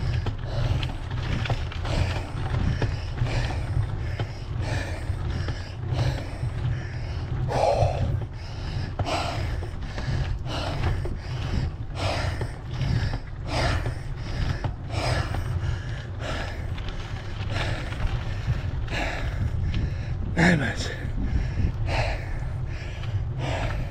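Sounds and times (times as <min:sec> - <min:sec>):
heavy rasping breathing: 0:00.0 - 0:23.9
steady low rumble: 0:00.0 - 0:23.9.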